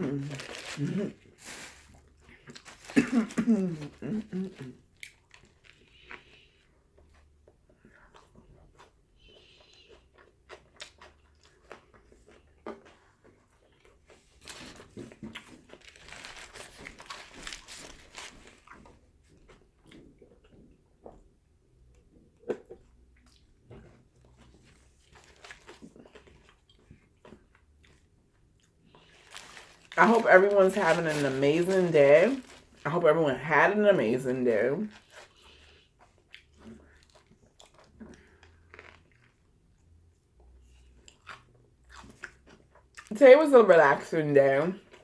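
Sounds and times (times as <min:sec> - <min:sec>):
chewing and crunching food: 0:00.0 - 0:43.1, 0:44.7 - 0:45.0.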